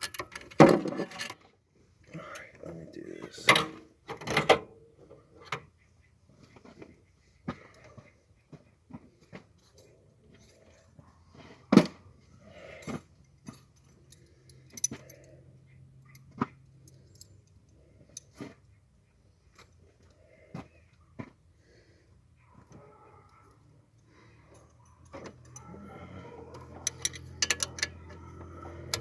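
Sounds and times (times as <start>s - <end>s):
hand tools and metal parts clinking: 0.0s - 1.5s, 2.2s - 5.7s, 7.5s - 21.4s, 22.5s - 29.0s.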